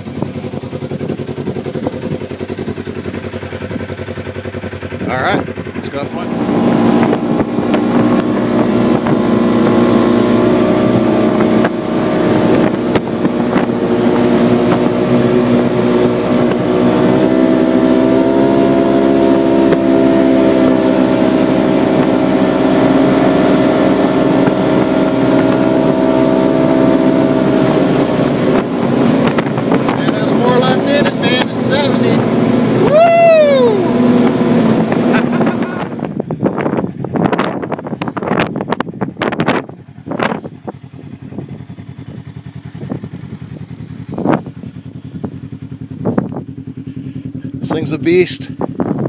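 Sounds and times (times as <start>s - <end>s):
off-road vehicle engine under load: 0.0s - 49.0s.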